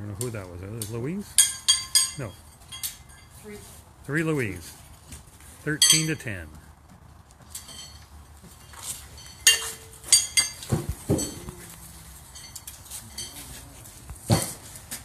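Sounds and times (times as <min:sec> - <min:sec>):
metal horseshoes clinking: 0:00.2 - 0:03.7, 0:05.7 - 0:06.6, 0:07.4 - 0:15.0.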